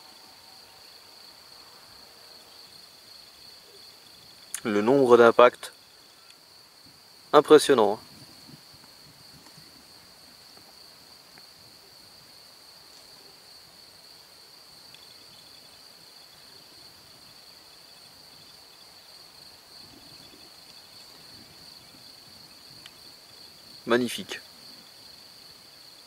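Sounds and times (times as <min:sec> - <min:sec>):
crickets trilling: 0:00.0 - 0:26.0
pulsing insect call: 0:00.0 - 0:26.0.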